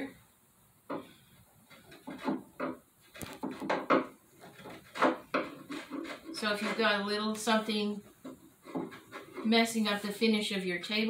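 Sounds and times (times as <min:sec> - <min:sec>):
steel tool scraping wood: 0:01.0 - 0:09.8.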